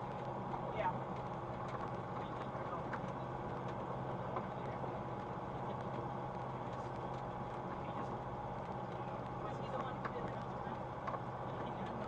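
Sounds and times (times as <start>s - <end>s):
aircraft engine and propeller drone: 0.0s - 12.0s.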